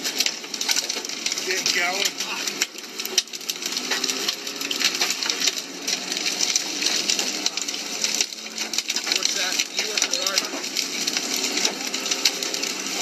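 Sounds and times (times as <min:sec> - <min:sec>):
rapid clatter of small hits: 0:00.0 - 0:13.0.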